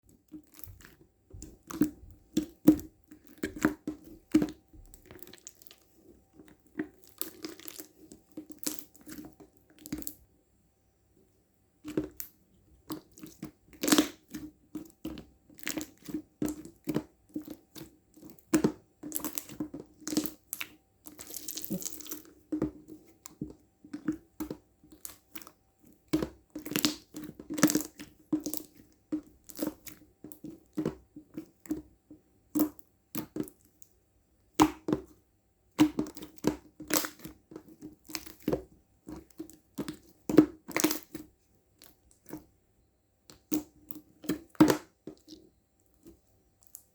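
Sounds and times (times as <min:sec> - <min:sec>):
slime squelching and popping: 0:00.3 - 0:10.2, 0:11.8 - 0:31.9, 0:34.5 - 0:42.5, 0:43.3 - 0:46.9.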